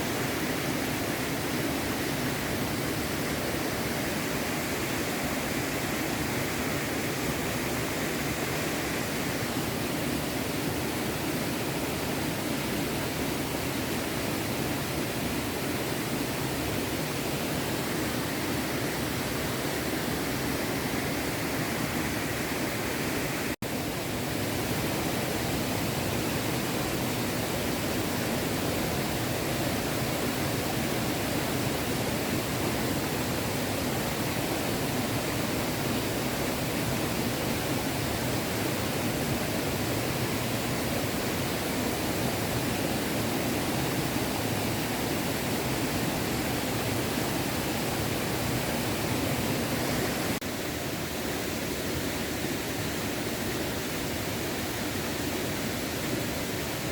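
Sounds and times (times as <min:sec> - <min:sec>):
stream flowing over stones: 0:00.0 - 0:56.9.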